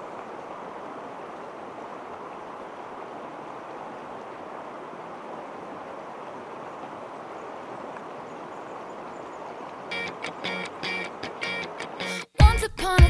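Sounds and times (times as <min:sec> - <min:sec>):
creek water running: 0:00.0 - 0:12.3.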